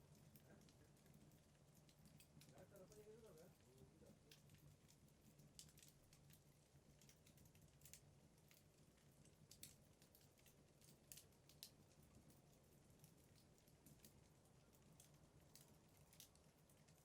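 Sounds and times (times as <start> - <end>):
wood crackling in fireplace: 0.0 - 17.0.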